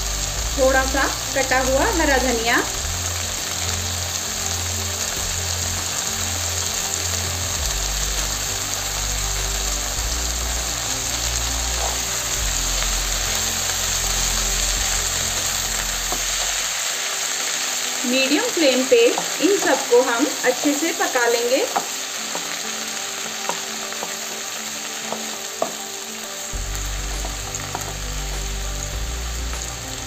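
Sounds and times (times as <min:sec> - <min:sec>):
greens frying in hot oil: 0:00.0 - 0:30.0
soft background music: 0:00.0 - 0:30.0.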